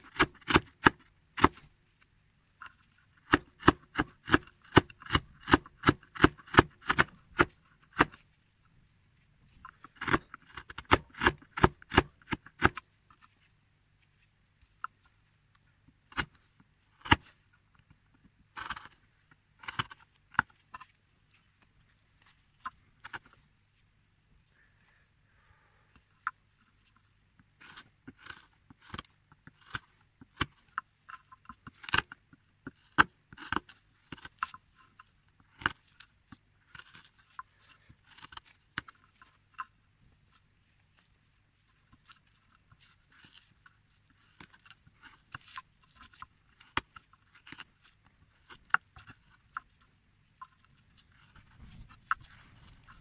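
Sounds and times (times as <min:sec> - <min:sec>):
carving tool scraping wood: 0:00.0 - 0:08.3, 0:09.5 - 0:13.5, 0:16.0 - 0:17.5, 0:18.5 - 0:23.6, 0:26.0 - 0:53.0.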